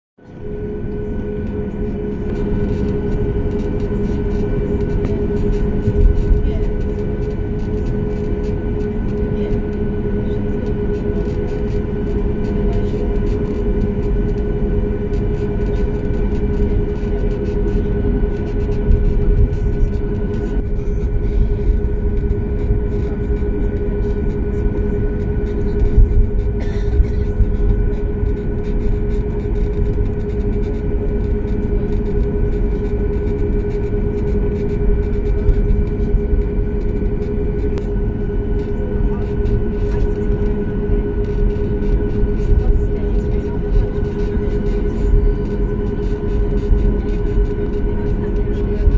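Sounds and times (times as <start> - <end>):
constant hum: 0.2 - 48.9
machine drone: 0.2 - 48.9
low rumble: 0.4 - 48.9.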